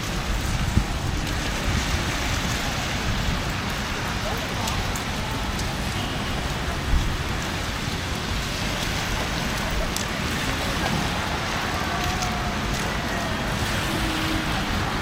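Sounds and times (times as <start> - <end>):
wet snow falling: 0.0 - 15.0
faint distant voices: 1.4 - 15.0.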